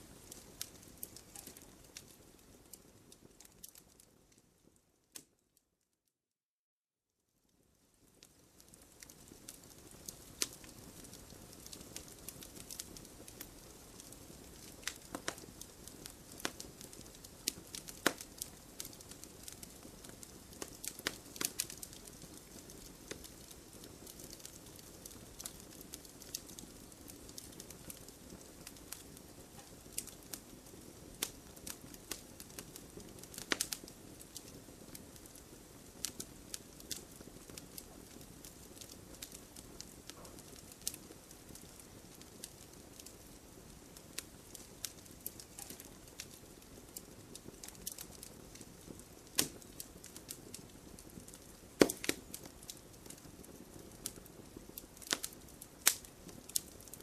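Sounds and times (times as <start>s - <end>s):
campfire crackling and popping: 0.0s - 5.4s, 7.8s - 57.0s
low steady hiss: 0.0s - 5.9s, 7.1s - 57.0s.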